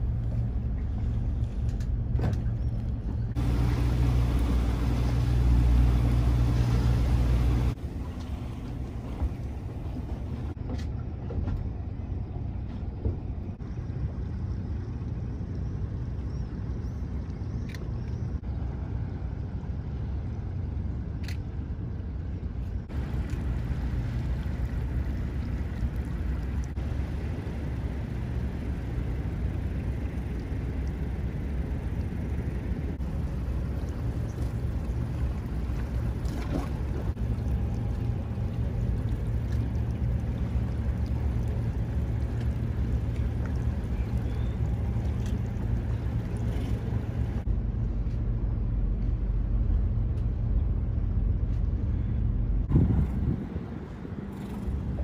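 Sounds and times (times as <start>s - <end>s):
boat engine rumble: 0.0s - 55.0s
water noise: 0.0s - 55.0s.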